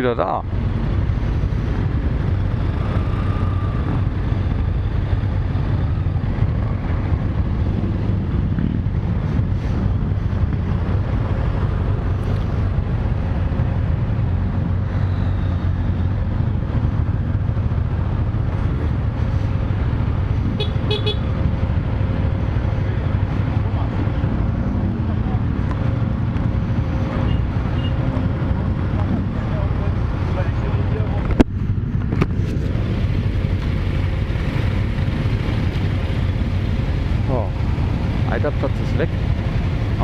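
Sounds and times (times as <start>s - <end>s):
motorcycle engine rumble: 0.0s - 40.0s.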